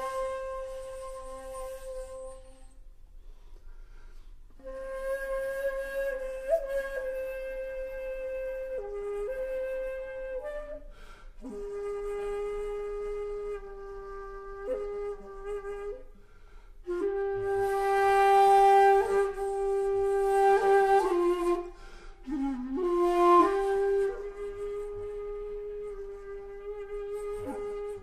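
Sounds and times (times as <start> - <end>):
bamboo flute playing long notes: 0.0 - 2.8, 4.6 - 28.0.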